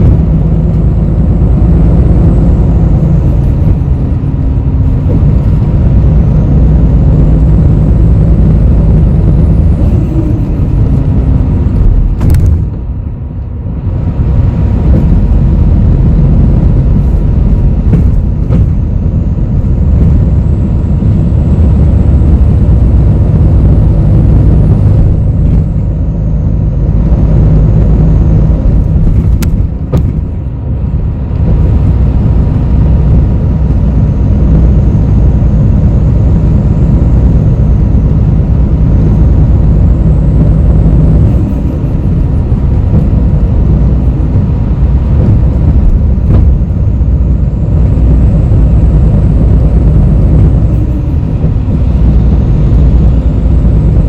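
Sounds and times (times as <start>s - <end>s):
bus engine rumble and road noise: 0.0s - 54.0s.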